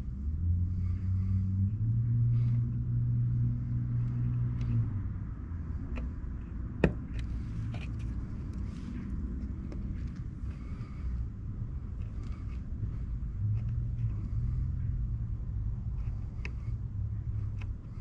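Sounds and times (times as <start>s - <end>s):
low vehicle engine hum: 0.0s - 18.0s.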